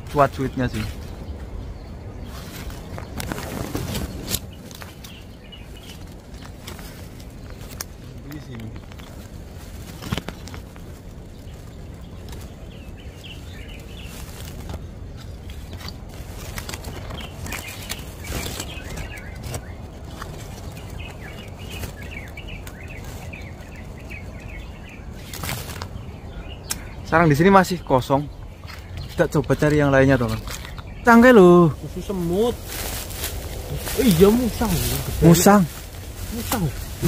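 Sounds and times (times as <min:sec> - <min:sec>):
small birds twittering: 0:00.0 - 0:37.0
twigs knocking and rustling: 0:00.0 - 0:37.0
wind rumble: 0:00.0 - 0:37.0.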